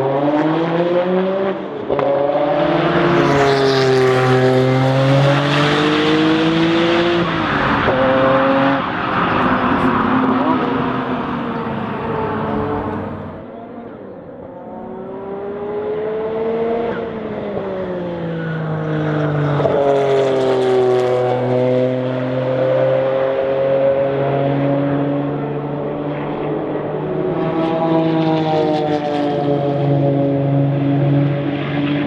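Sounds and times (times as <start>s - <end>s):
race car engine at speed: 0.0s - 32.0s.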